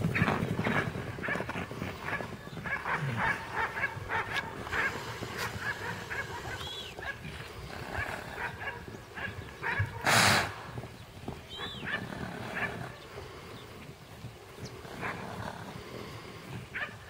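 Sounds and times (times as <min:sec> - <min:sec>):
horse hooves galloping on turf: 0:00.0 - 0:17.0
horse snorting: 0:00.0 - 0:17.0.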